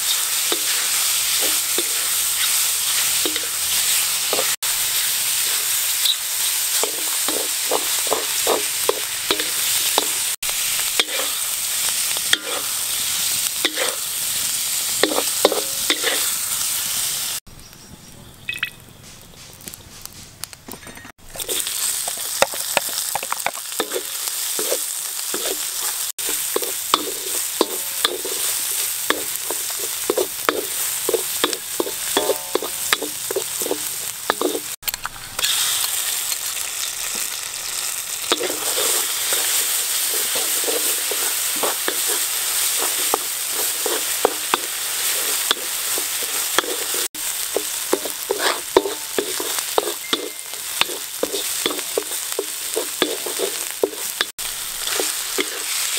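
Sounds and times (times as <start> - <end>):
spatula scraping a wok: 0.0 - 17.2, 21.3 - 23.1, 23.7 - 34.8, 35.4 - 55.9
food sizzling in hot oil: 0.0 - 18.9, 21.1 - 55.9.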